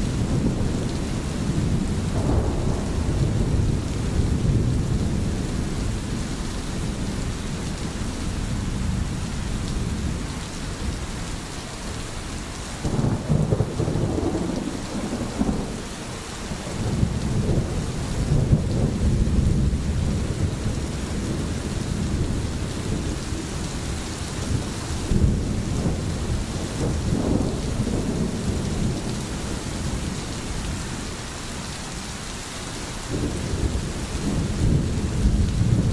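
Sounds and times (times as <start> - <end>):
steady rain: 0.0 - 35.9
deep rolling thunder: 0.1 - 11.0, 12.8 - 31.1, 33.1 - 35.9.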